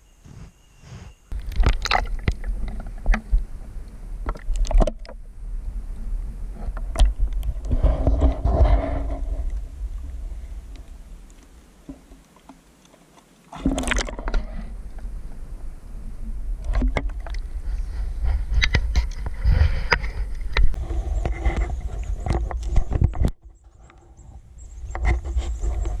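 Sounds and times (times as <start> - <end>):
wind rumble on microphone: 0.3 - 12.0, 13.6 - 26.0.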